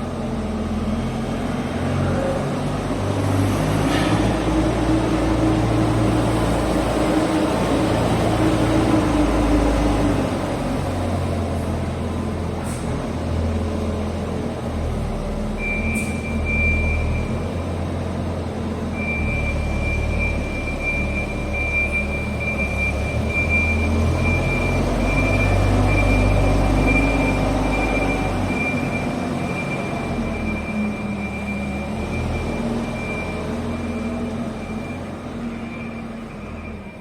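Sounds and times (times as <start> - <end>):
diesel engine rumbling: 0.0 - 37.0.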